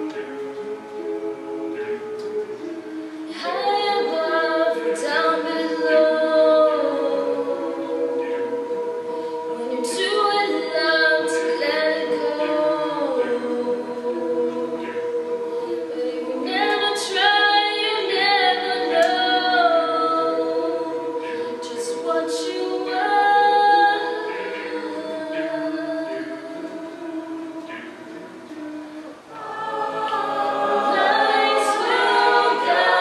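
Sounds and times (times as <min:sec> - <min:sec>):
backing voices holding chords: 0:00.0 - 0:33.0.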